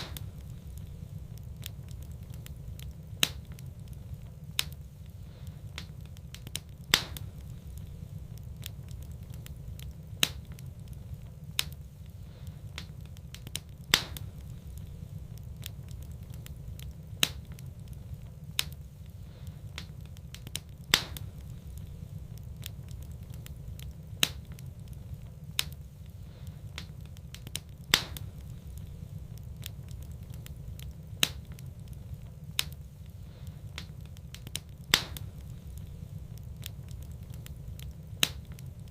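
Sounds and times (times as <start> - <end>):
low steady rumble: 0.0 - 38.9
sharp fire pops: 0.0 - 38.9
wood fire crackling: 0.0 - 38.9.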